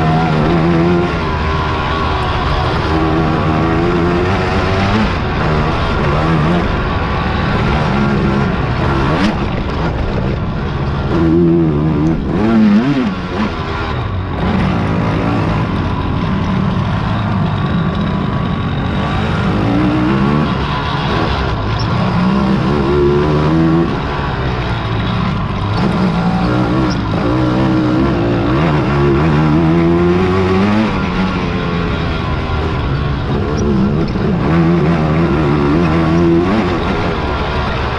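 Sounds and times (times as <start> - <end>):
quad engines revving: 0.0 - 37.9.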